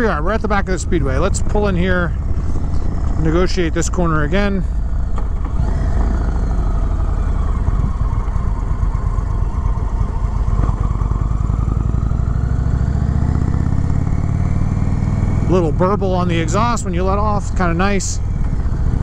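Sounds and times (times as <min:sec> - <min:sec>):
motorcycle engine: 0:00.0 - 0:19.0.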